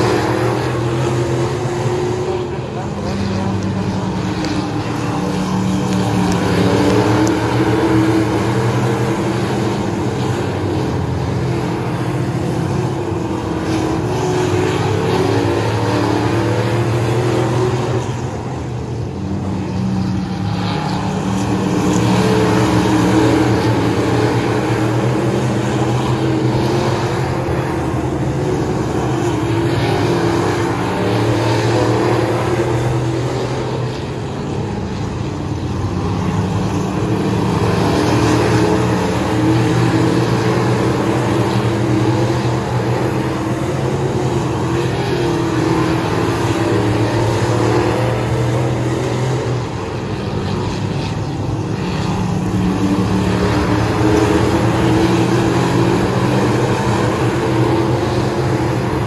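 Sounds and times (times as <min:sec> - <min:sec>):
stock car engines racing: 0:00.0 - 0:59.0.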